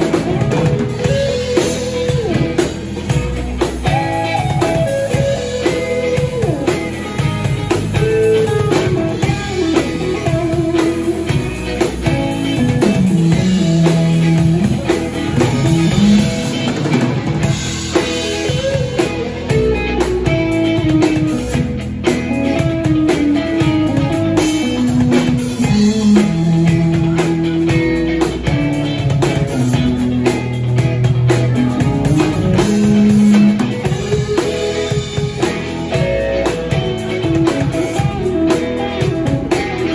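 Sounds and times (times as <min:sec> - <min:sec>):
rock band playing: 0:00.0 - 0:39.9
winding guitar line: 0:00.0 - 0:39.9.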